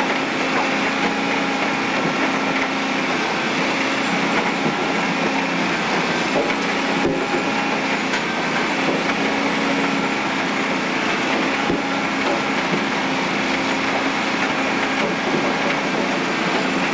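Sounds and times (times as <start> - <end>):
shredder grinding asphalt: 0.0 - 16.9.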